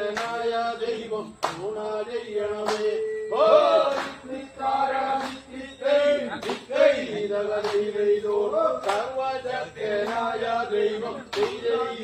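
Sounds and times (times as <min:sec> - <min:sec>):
men singing a boat song: 0:00.0 - 0:12.0.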